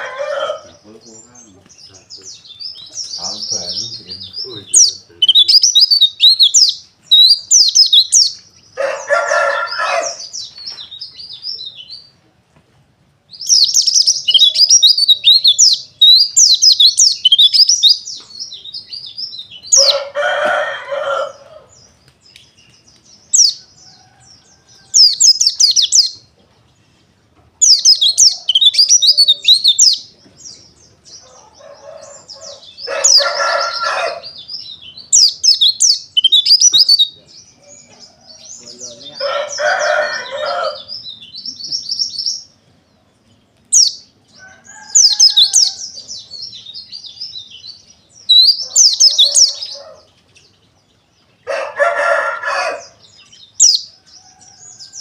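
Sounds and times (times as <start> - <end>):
birds twittering: 0.0 - 55.0.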